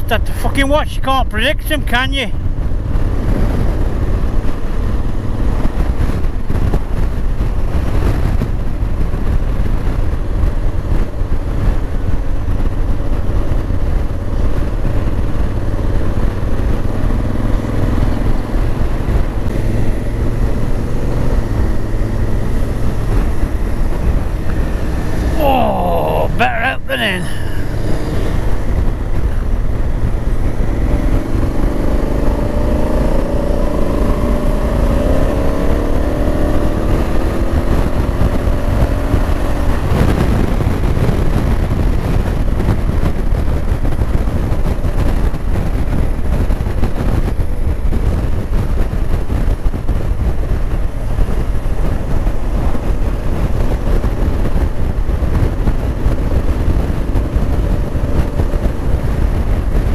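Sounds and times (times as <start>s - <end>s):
road noise: 0.0s - 59.9s
wind rush on microphone: 0.0s - 59.9s.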